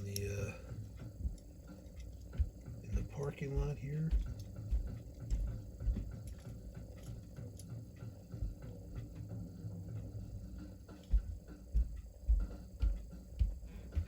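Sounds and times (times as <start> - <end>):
soft low bumps: 0.0 - 14.0.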